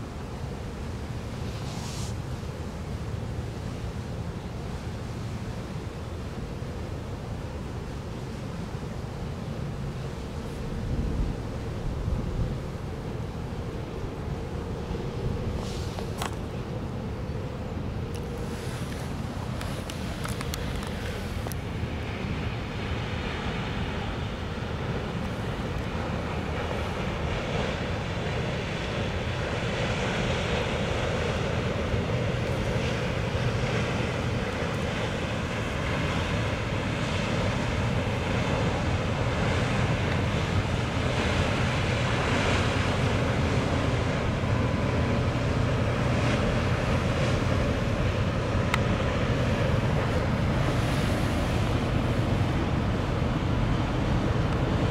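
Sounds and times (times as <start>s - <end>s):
ship engine drone: 0.0s - 54.9s.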